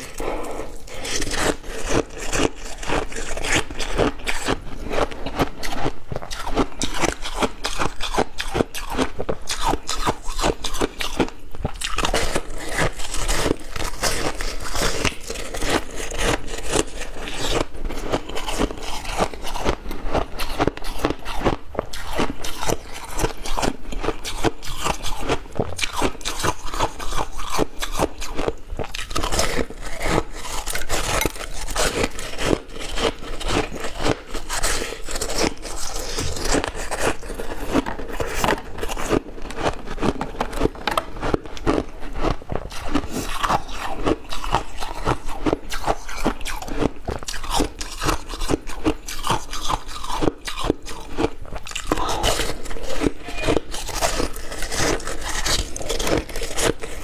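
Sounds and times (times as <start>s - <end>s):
biting and crunching ice: 0.0s - 57.0s.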